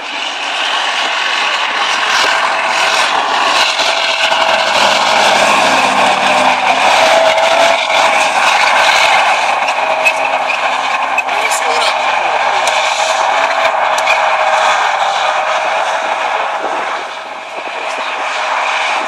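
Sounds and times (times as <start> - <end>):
steady whine: 0.0 - 19.0
tank diesel engine running hard: 0.0 - 19.0.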